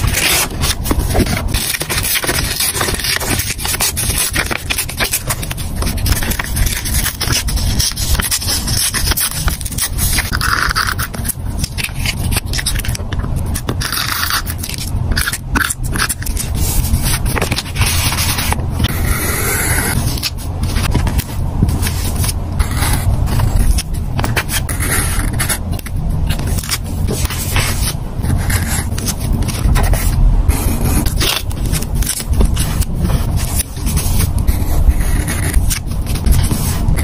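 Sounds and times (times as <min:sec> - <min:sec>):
craft knife scratching sticker sheet: 0:00.0 - 0:37.0
paper pages handled: 0:00.0 - 0:37.0.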